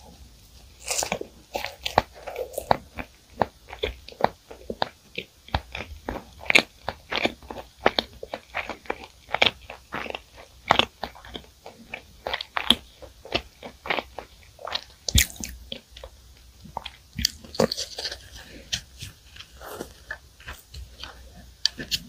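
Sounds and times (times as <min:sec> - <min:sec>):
person chewing crisp pastry: 0:00.0 - 0:22.0.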